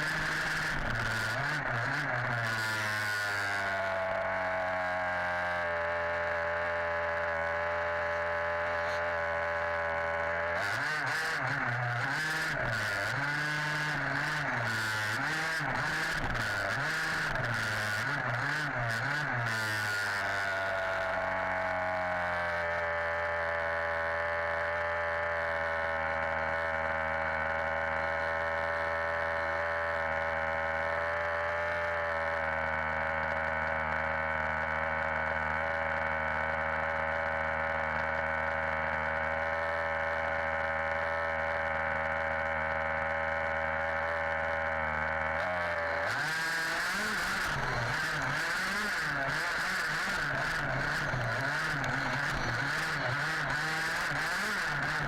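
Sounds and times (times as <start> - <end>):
two-stroke engine idling and revving: 0.0 - 55.0.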